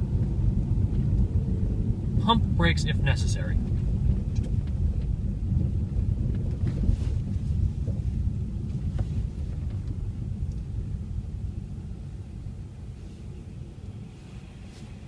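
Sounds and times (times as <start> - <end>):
car driving on snowy road: 0.0 - 15.0.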